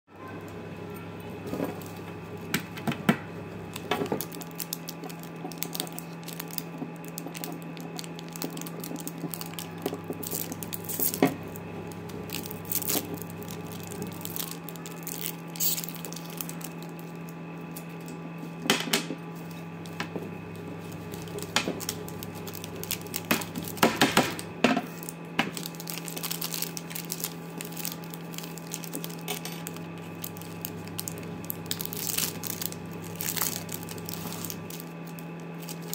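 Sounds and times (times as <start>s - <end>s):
steady low hum: 0.1s - 35.9s
sweet wrappers crinkling and tearing: 1.4s - 2.8s, 3.6s - 18.7s, 19.3s - 35.9s.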